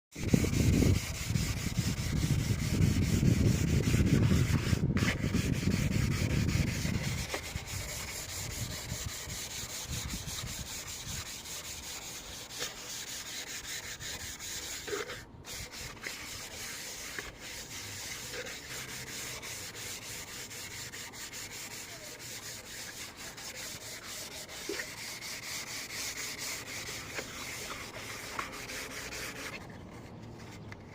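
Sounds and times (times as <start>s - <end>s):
abrasive rubbing: 0.2s - 30.7s.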